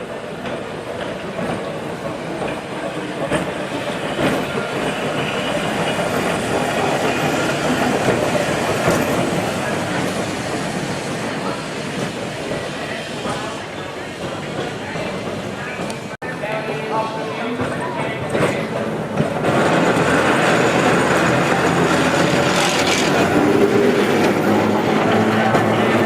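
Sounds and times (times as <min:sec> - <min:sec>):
tram wheels on rails: 0:00.0 - 0:26.0.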